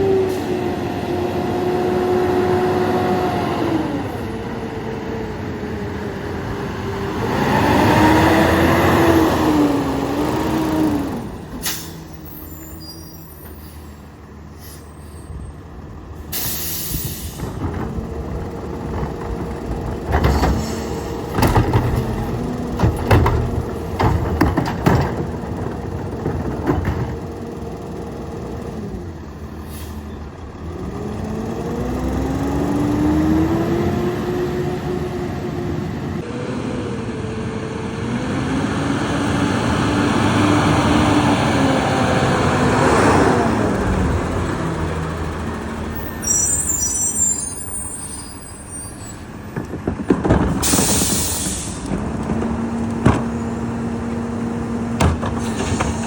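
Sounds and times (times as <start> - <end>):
garbage truck diesel engine revving: 0.0 - 13.3, 15.5 - 46.8, 49.2 - 56.0.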